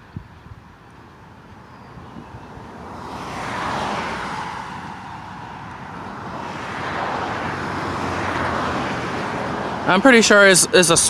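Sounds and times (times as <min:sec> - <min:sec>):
cars passing on highway: 0:00.0 - 0:11.0.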